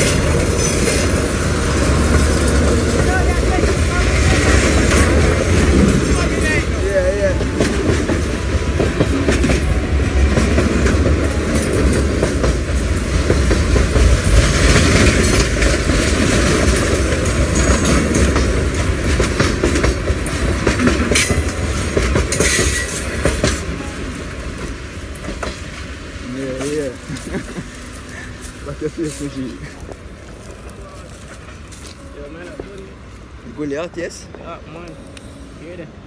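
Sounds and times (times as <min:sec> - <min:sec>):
train wheels clacking on rail joints: 0:00.0 - 0:33.0
metallic rattling of train cars: 0:00.0 - 0:35.9
freight train rolling past: 0:00.0 - 0:36.0.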